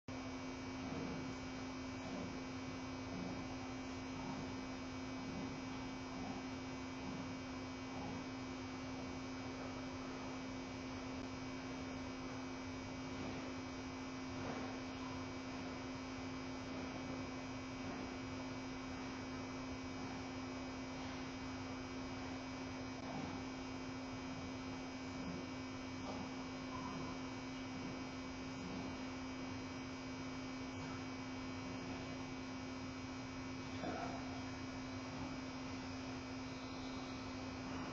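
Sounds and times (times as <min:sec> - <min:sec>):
low electrical hum: 0:00.1 - 0:37.9
faint steady high tones: 0:00.2 - 0:37.9.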